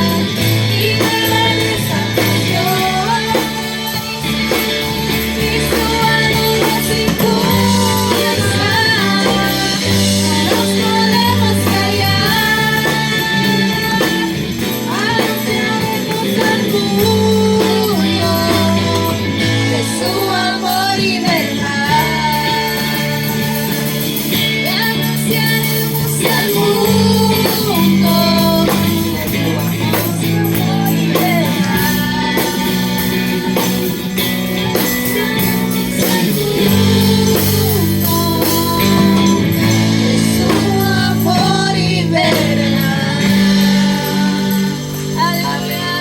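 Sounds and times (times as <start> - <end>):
person singing worship song: 0.0 - 34.1, 34.8 - 46.0
guitar: 0.0 - 46.0.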